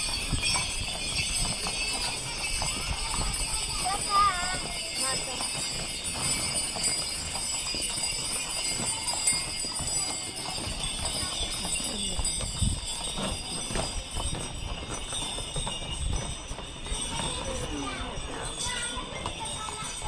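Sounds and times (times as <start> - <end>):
harness bells jingling: 0.0 - 20.0
hooves clip-clopping on asphalt: 0.0 - 20.0.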